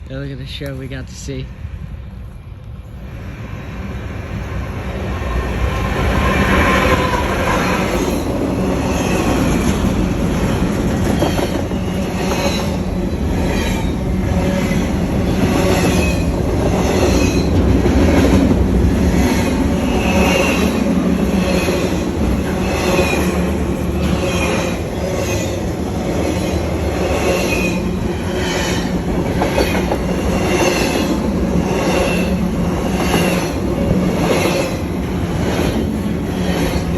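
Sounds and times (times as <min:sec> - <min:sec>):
train rumbling past: 0:00.0 - 0:36.9
wheels clacking over rail joints: 0:05.9 - 0:36.9.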